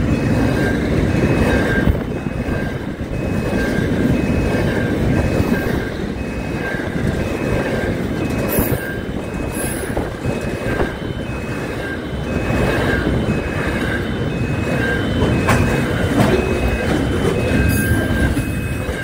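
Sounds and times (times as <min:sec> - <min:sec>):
freight train wheels rumbling: 0:00.0 - 0:19.0
level crossing warning beeps: 0:00.0 - 0:19.0.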